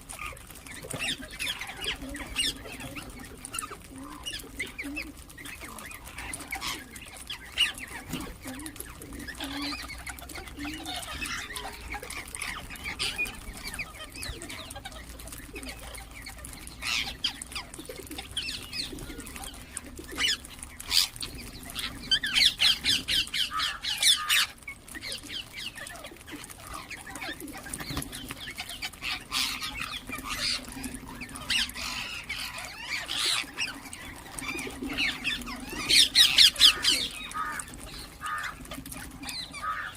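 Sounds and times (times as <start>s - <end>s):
parakeets chirping: 0.0s - 39.9s
parakeets screeching: 0.1s - 39.9s.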